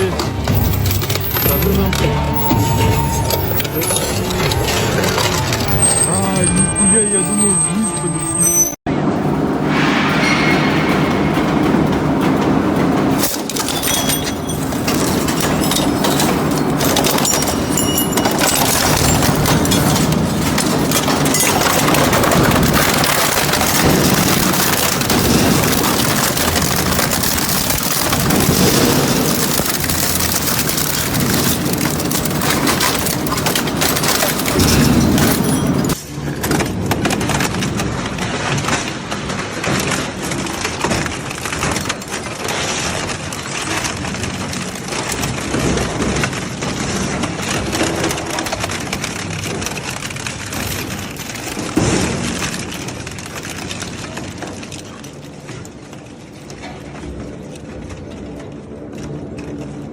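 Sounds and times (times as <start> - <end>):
metal shredder crunching scrap: 0.0 - 8.5, 9.2 - 55.8.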